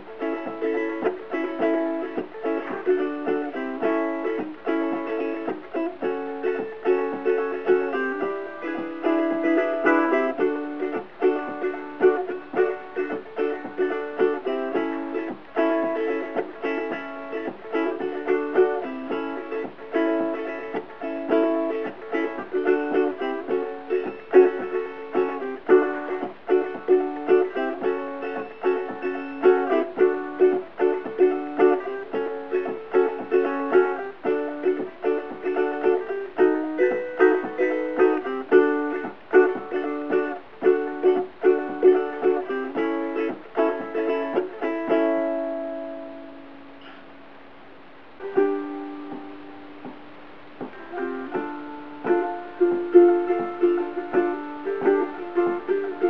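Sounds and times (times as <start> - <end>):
ukulele strumming chords: 0.0 - 56.0.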